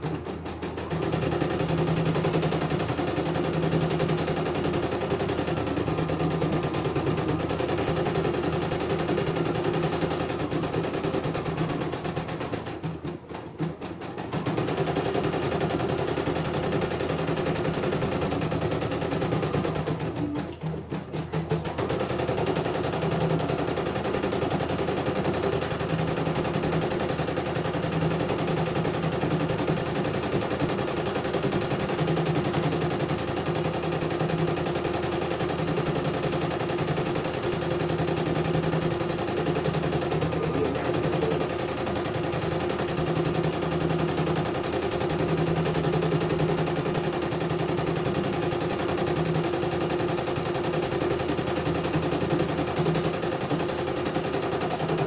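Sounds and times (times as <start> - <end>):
embroidery machine needle clatter: 0.0 - 55.0.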